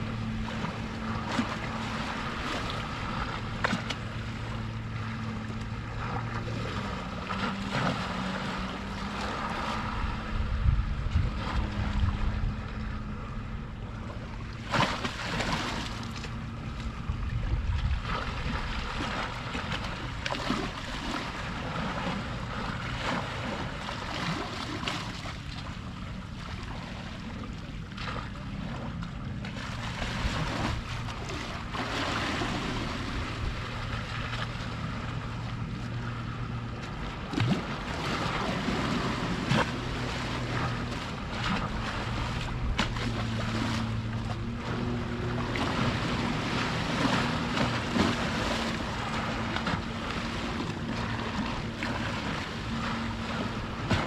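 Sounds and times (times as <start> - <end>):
boat motor humming: 0.0 - 54.0
water lapping against shore: 0.0 - 54.0
wind rumbling on microphone: 0.0 - 54.0.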